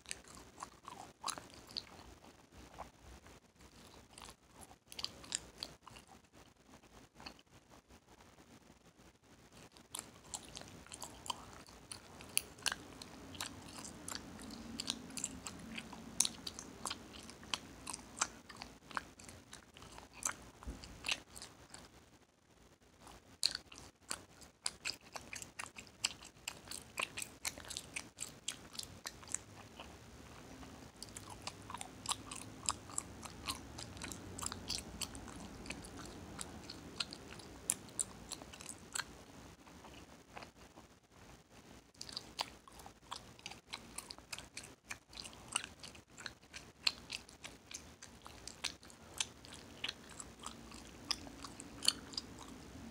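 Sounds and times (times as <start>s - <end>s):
open-mouthed gum chewing: 0.0s - 7.4s, 9.5s - 22.0s, 23.0s - 40.9s, 41.9s - 52.9s.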